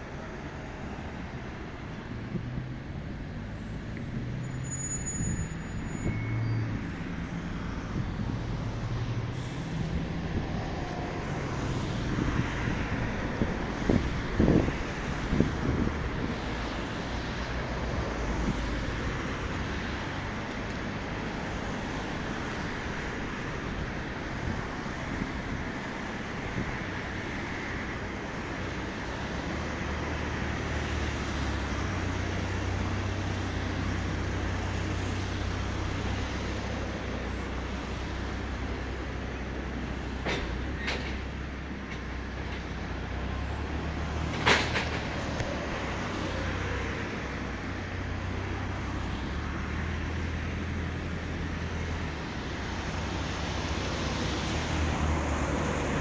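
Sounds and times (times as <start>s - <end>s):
rumble of engines and traffic: 0.0s - 56.0s.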